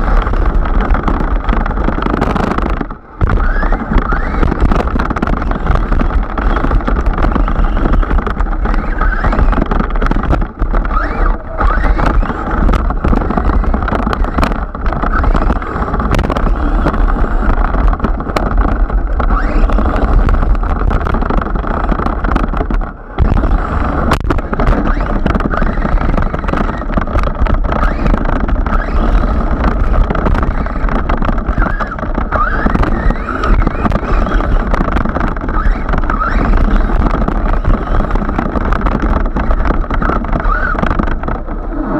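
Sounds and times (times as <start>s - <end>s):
electric motor whine: 0.0s - 41.1s
tyre and wind noise: 0.0s - 41.9s.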